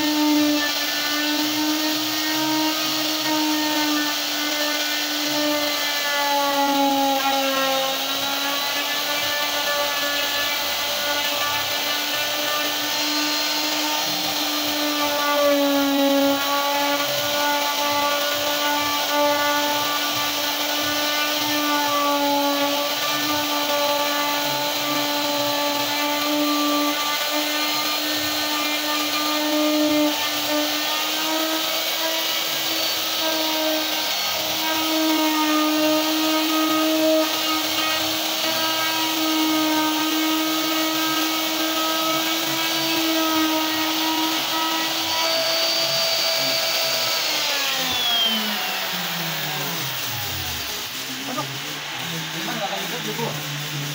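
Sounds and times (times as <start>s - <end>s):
electric router carving wood: 0.0s - 53.9s.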